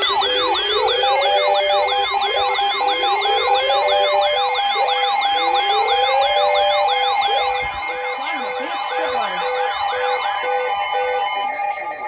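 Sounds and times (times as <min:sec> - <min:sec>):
electronic siren alert: 0:00.0 - 0:12.0
fast yelping siren sweep: 0:00.0 - 0:12.0
slow rising siren wail: 0:00.0 - 0:12.0
steady alarm tone: 0:00.0 - 0:12.0.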